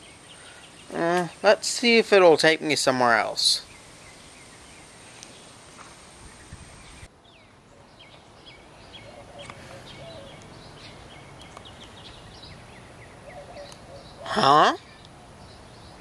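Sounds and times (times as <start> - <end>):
birds chirping: 0.0 - 16.0
faint steady hiss: 0.0 - 16.0.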